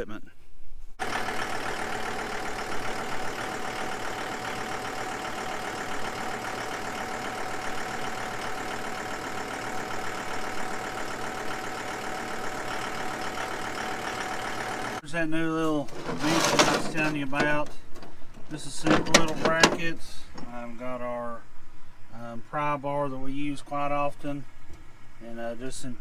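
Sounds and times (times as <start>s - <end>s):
tractor engine idling: 1.0s - 22.6s.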